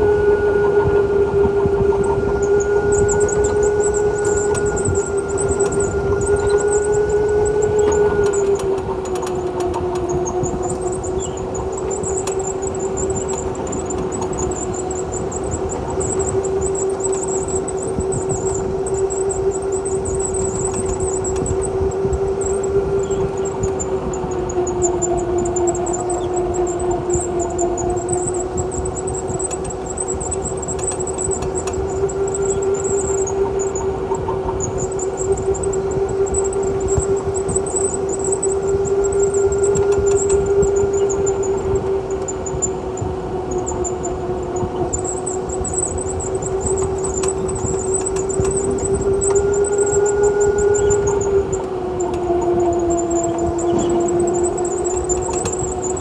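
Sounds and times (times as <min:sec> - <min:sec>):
go-kart motor whining: 0:00.0 - 0:56.0
thin high whine: 0:00.0 - 0:56.0.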